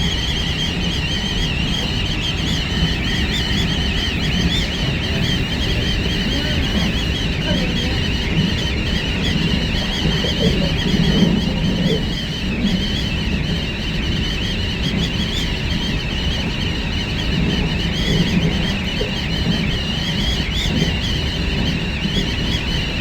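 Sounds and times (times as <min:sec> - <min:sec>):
train running rumble: 0:00.0 - 0:23.0
wind noise at window: 0:00.0 - 0:23.0.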